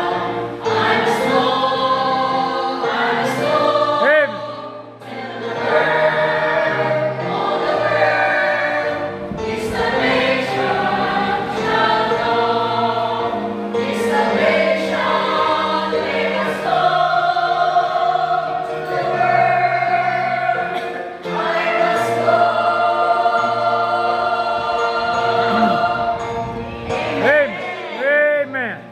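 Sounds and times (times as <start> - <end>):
choir singing held chords: 0.0 - 28.9.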